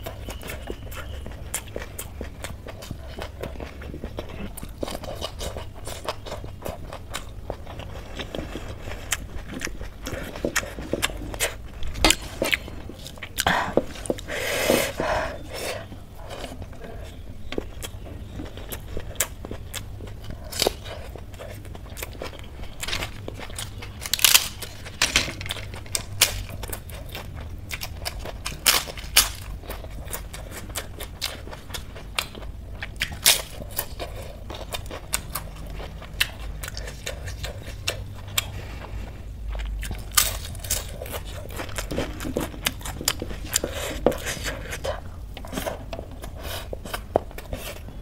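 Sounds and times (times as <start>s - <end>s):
crunchy chewing: 0.0s - 48.0s.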